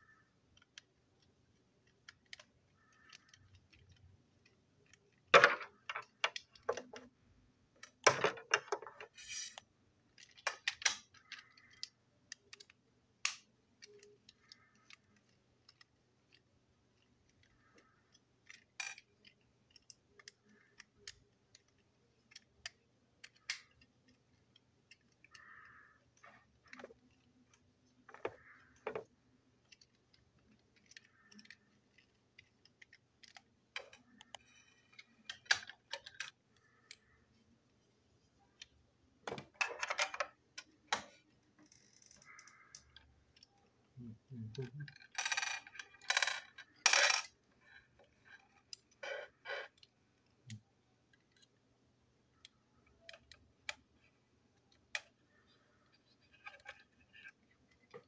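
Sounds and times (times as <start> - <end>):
toy parts clicking and clattering: 0.1 - 37.2, 39.4 - 43.8, 44.4 - 51.6, 52.4 - 58.0.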